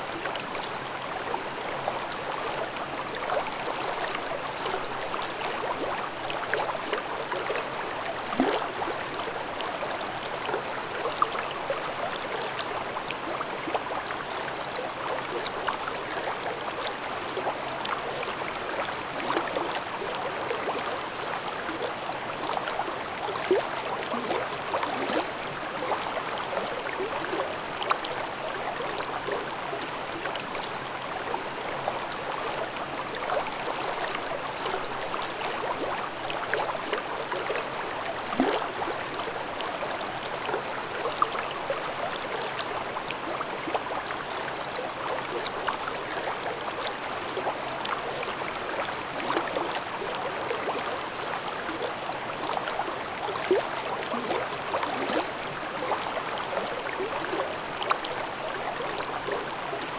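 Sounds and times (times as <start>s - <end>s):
stream babbling over rocks: 0.1s - 59.9s.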